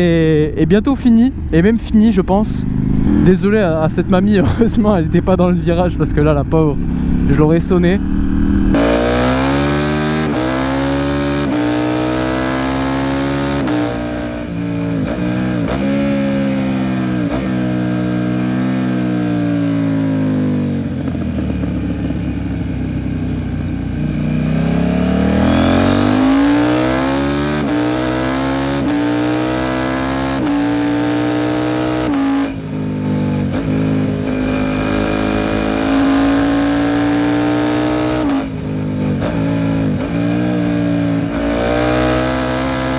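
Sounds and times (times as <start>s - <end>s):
motorcycle engine revving through gears: 1.1s - 42.9s.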